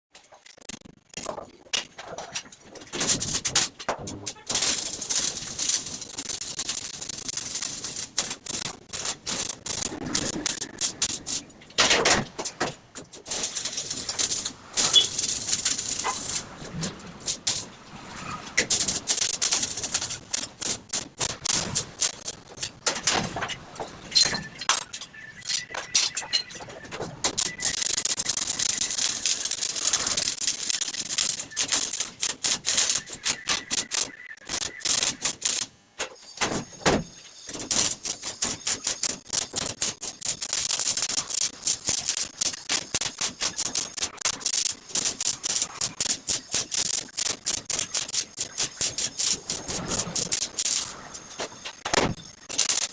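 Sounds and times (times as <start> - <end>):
welding arc crackling: 0.1 - 26.5, 27.2 - 35.7, 37.3 - 52.9.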